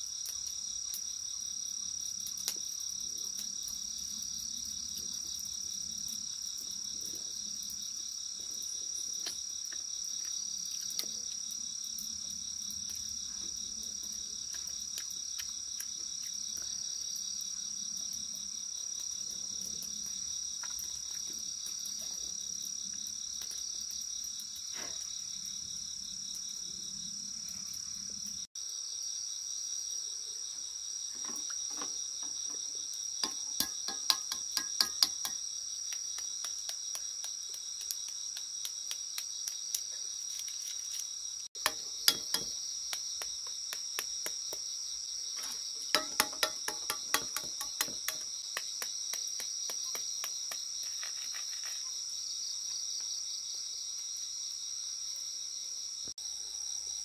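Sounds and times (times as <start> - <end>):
insects chirping chorus: 0.0 - 57.0.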